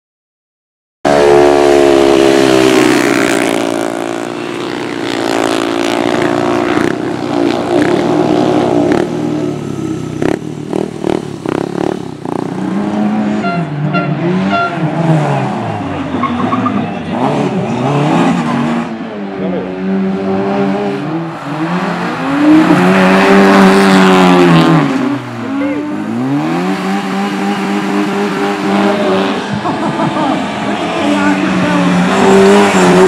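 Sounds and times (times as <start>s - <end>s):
car engine revving: 1.1s - 33.0s
racing engines running loud: 1.1s - 33.0s.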